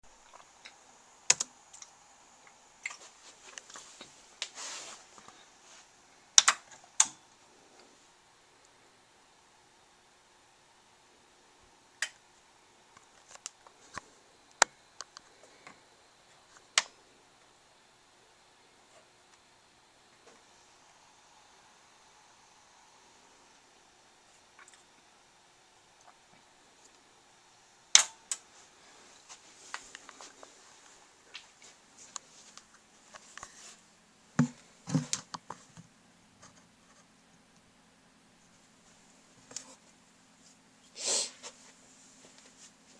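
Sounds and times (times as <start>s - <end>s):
faint low steady hum: 0.0s - 42.9s.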